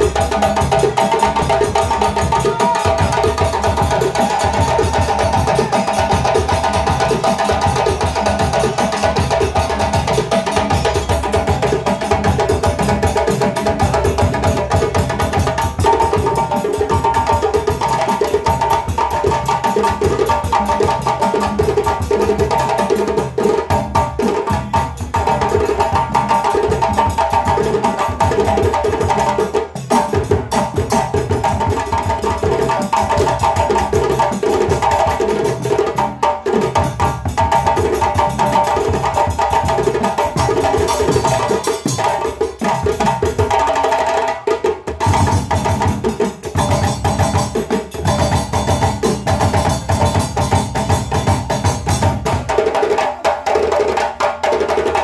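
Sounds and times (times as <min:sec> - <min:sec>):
djembe drums played by hand: 0:00.0 - 0:55.0.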